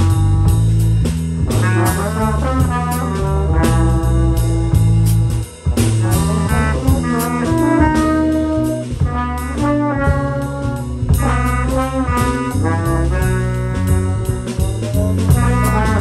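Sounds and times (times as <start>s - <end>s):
electric bass line: 0.0s - 16.0s
sharp drum hits: 0.0s - 16.0s
trombones sustained notes: 0.0s - 16.0s.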